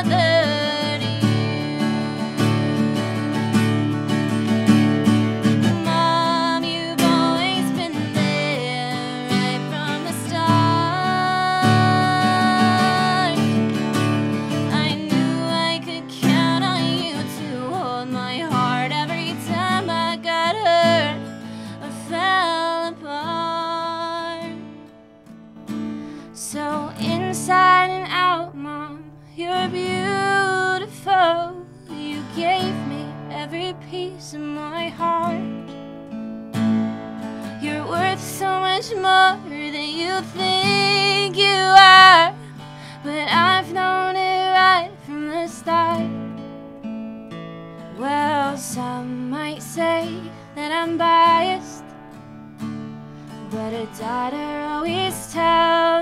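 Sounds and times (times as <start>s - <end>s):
woman singing: 0.0s - 3.7s, 4.7s - 24.8s, 26.2s - 35.7s, 37.4s - 46.4s, 47.9s - 51.9s, 53.4s - 56.0s
acoustic guitar: 0.0s - 56.0s.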